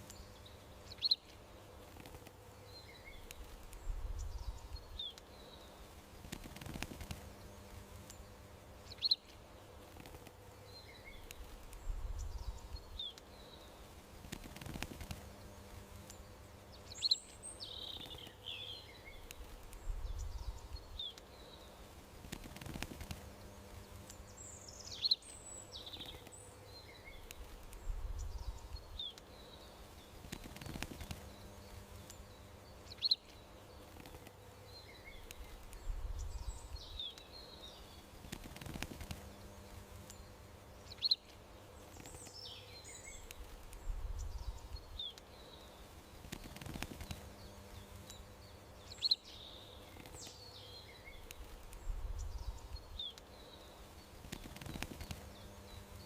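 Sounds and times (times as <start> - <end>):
faint background hum: 0.0 - 56.0
songbirds chirping: 0.0 - 56.0.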